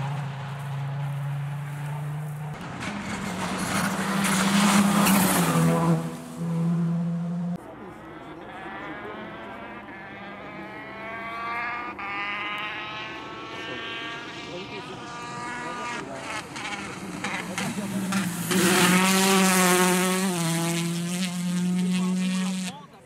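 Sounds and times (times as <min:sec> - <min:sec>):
rally car passing close: 0:00.0 - 0:22.8
turbocharged engine accelerating: 0:00.0 - 0:23.0.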